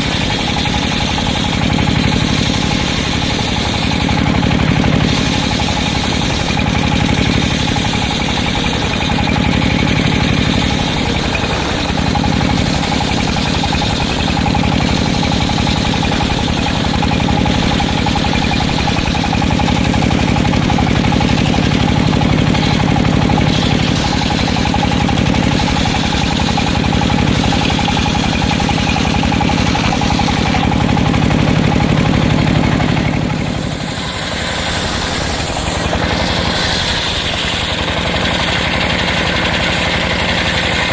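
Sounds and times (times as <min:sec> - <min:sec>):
sawmill machine drone: 0:00.0 - 0:40.9.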